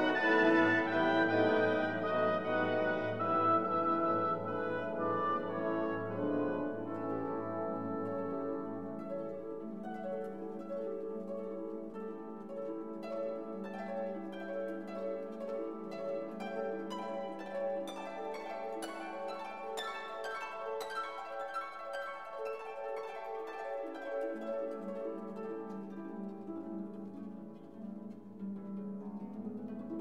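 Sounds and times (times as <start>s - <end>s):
plucked notes: 0.0s - 30.0s.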